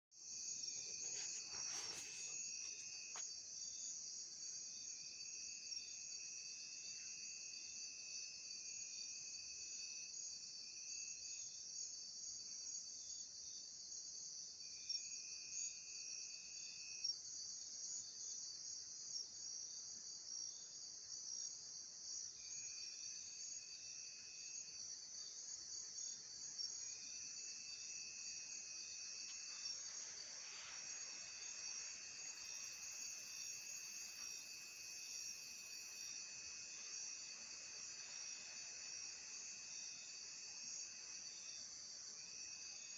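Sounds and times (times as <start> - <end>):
lower insect trill: 0.2 - 42.9.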